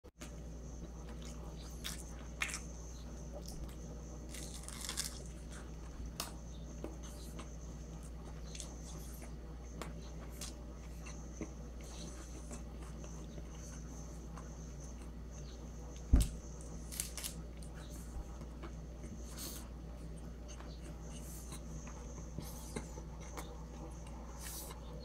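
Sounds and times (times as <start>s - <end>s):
person chewing with crunches: 0.2s - 25.0s
steady low hum: 0.2s - 25.0s.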